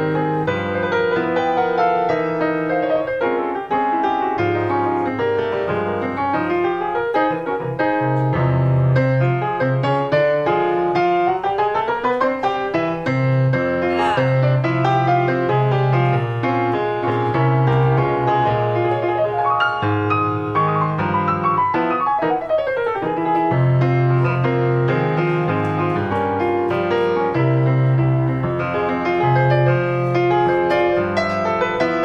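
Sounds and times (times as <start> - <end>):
piano quick runs: 0.0 - 32.0.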